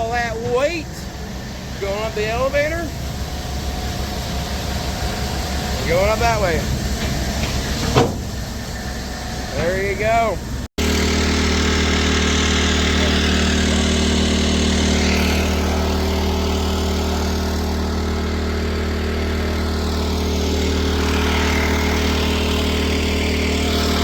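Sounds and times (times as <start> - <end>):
large machinery engine running: 0.0 - 24.0.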